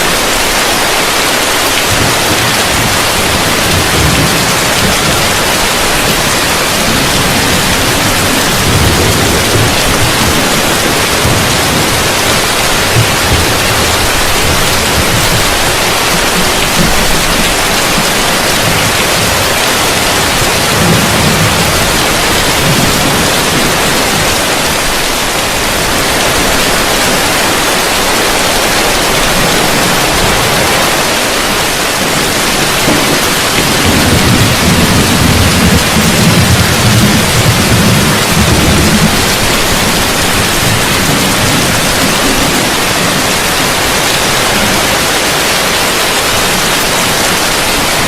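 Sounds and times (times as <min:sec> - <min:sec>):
heavy rain on a roof: 0:00.0 - 0:48.0.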